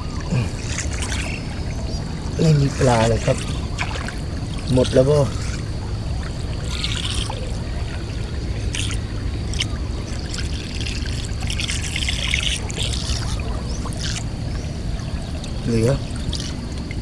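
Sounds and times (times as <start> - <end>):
steady low rumble: 0.0 - 17.0
water splashing and dripping: 0.0 - 17.0.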